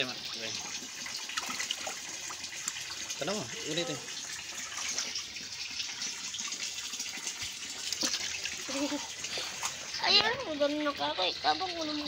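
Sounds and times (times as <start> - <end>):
fish splashing in a tub: 0.0 - 12.0
water rushing: 0.0 - 12.0.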